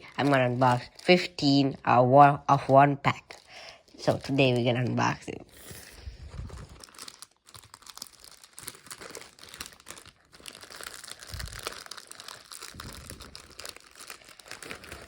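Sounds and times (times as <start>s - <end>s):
wrapper crinkling and tearing: 0.0s - 2.0s, 3.1s - 15.0s.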